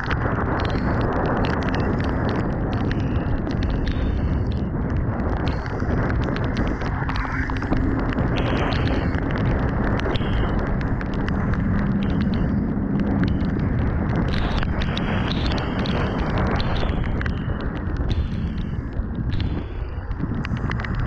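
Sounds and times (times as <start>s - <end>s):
light ticks: 0.0s - 21.0s
motorcycle engine hum: 0.0s - 21.0s
wind rushing over microphone: 0.0s - 21.0s.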